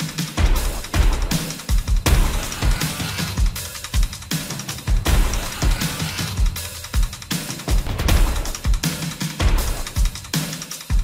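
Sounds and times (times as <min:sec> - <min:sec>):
backing music with drum beat: 0:00.0 - 0:11.0.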